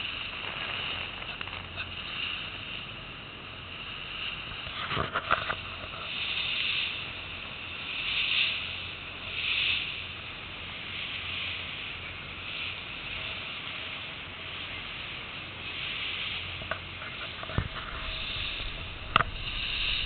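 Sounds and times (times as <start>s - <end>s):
wind and sea water rushing: 0.0s - 20.0s.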